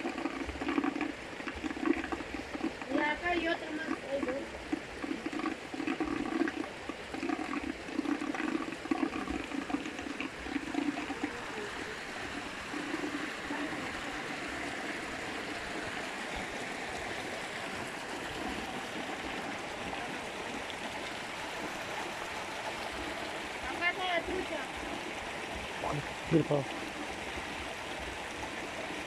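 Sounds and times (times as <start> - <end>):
water pouring from a pipe: 0.0 - 29.0.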